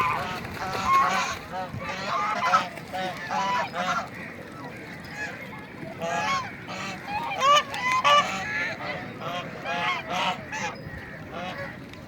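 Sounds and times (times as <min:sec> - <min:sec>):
ducks quacking: 0:00.0 - 0:04.3, 0:06.0 - 0:11.7.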